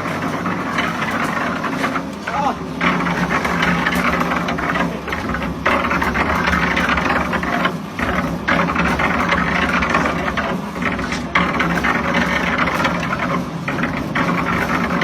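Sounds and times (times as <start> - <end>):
sand grinding machine rattling: 0.0 - 15.0.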